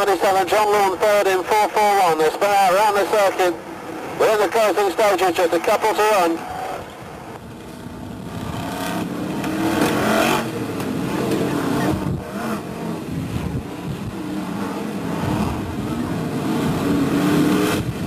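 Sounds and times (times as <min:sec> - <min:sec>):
stock car engines racing past: 0:00.0 - 0:18.0.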